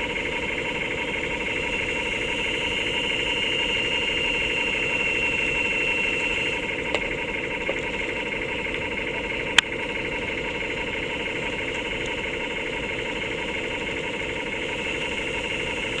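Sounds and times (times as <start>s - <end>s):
simulated boat engine sound: 0.0s - 16.0s.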